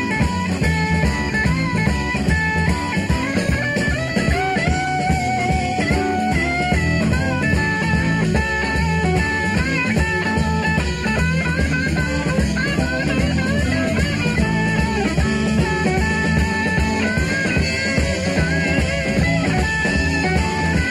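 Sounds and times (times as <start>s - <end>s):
rock band playing live: 0.0s - 20.9s
sliding lead guitar line: 0.0s - 20.9s.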